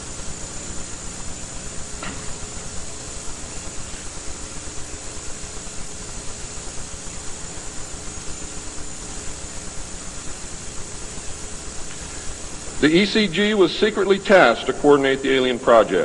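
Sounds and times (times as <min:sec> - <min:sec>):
faint low hum: 0:00.0 - 0:16.0
tape hiss: 0:00.0 - 0:16.0.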